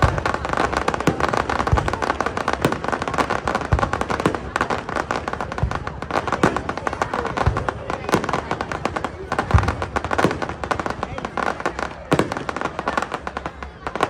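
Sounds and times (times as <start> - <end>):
fireworks crackling and popping: 0.0 - 14.0.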